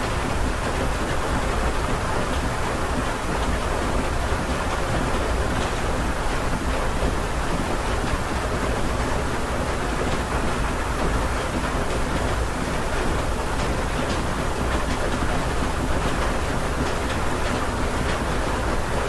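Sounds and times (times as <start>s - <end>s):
heavy rain heard indoors: 0.0s - 19.0s.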